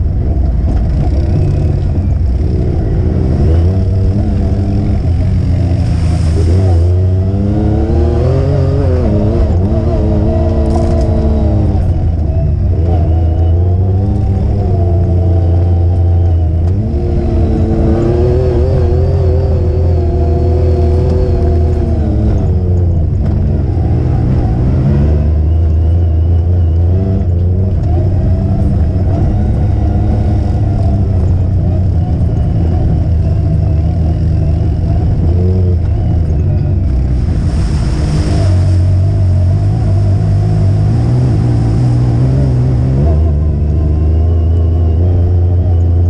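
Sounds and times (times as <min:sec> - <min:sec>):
low rumble on dirt trail: 0:00.0 - 0:46.0
off-road vehicle engine revving: 0:00.0 - 0:46.0.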